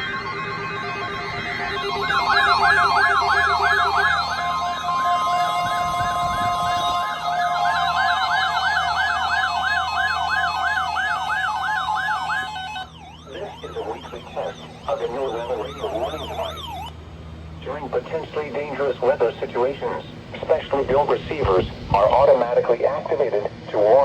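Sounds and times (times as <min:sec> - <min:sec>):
siren-like warble: 0:00.0 - 0:16.9, 0:17.6 - 0:22.3
steady alarm tone: 0:00.0 - 0:22.3.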